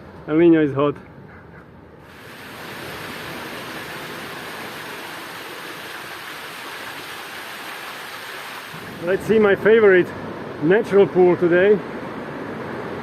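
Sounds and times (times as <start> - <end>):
rushing water: 2.0 - 13.0.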